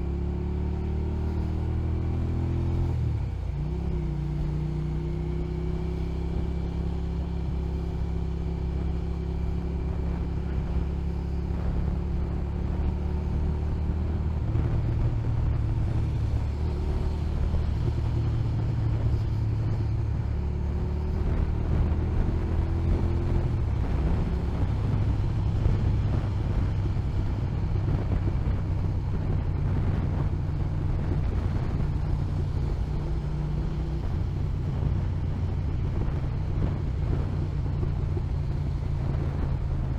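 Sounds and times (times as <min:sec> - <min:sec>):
motorcycle engine running: 0:00.0 - 0:39.9
road noise: 0:00.0 - 0:39.9
wind: 0:00.0 - 0:39.9.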